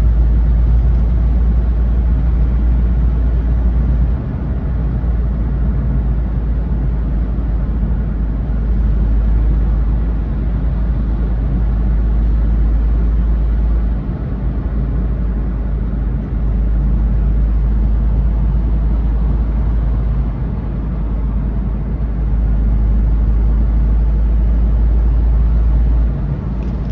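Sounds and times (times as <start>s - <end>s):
car engine low rumble: 0.0s - 26.9s.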